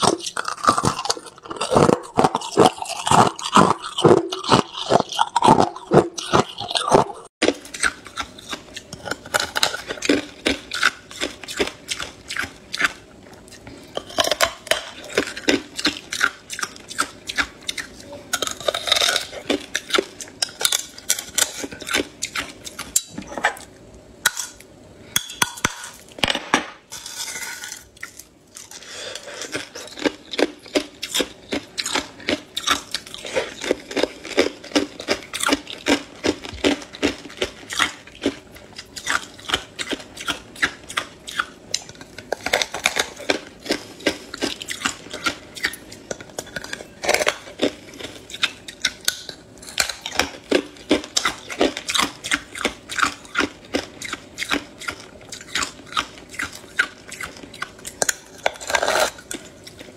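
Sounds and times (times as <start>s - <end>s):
ice being chewed crunching: 0.0s - 23.7s, 27.0s - 59.9s.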